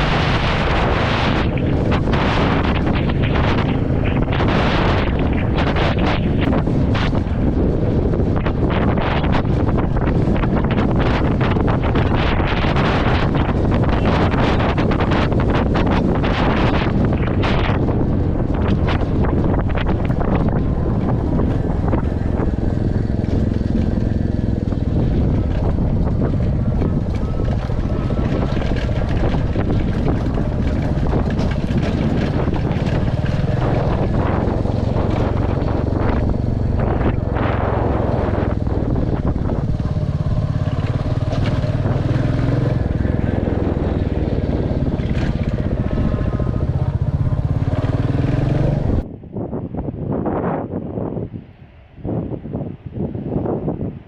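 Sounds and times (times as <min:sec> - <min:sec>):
motorcycle engine running: 0:00.0 - 0:49.2.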